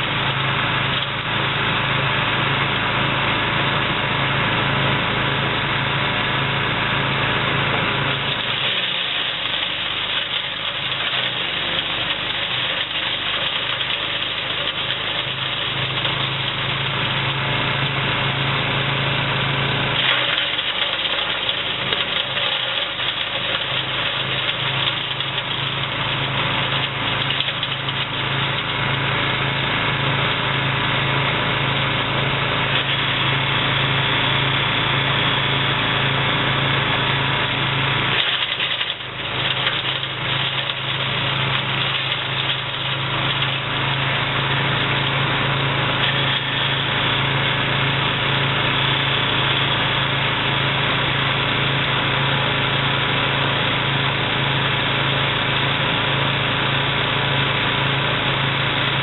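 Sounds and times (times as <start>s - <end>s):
wood chipper running: 0.0s - 59.0s.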